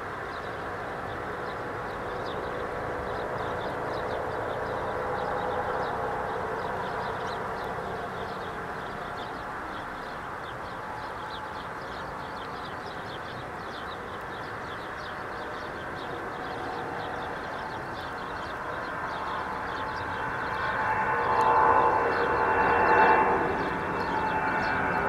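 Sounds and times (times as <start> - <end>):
jet engines at takeoff: 0.0 - 25.0.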